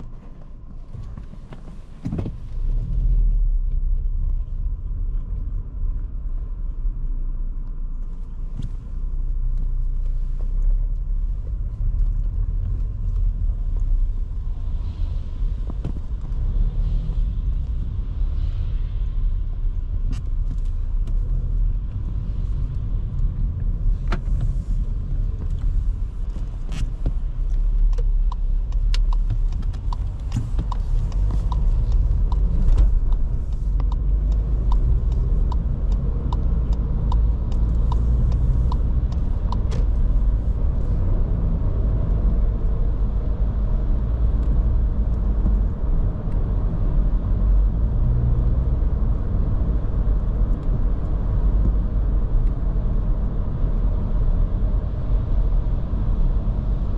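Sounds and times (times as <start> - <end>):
car engine rumble: 0.0 - 56.9
tyre and road noise: 0.0 - 56.9.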